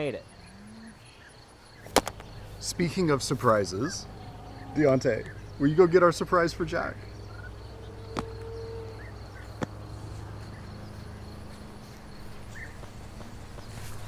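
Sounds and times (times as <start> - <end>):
steady low hum: 1.9 - 14.0
high-pitched insect buzz: 2.2 - 14.0.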